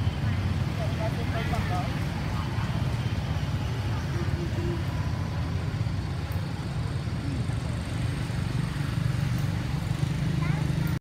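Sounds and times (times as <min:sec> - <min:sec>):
motorbikes passing: 0:00.0 - 0:11.0
road traffic rumble: 0:00.0 - 0:11.0.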